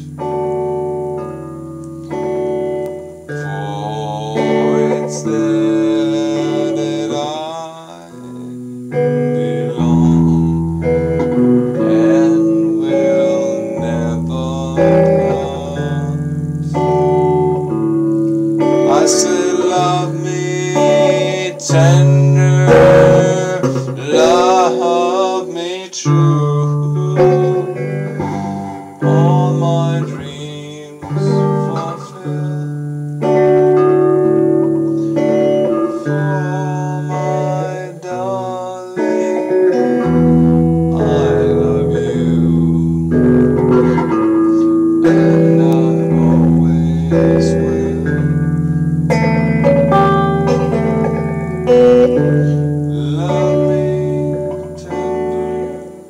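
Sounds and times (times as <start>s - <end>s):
guitar chords: 0.0s - 56.0s
man singing: 2.1s - 56.0s.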